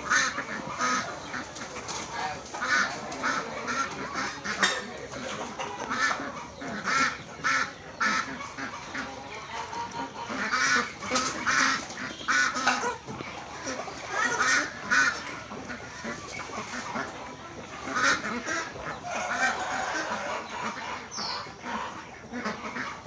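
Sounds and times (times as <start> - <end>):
ducks and geese honking and quacking: 0.0 - 23.0.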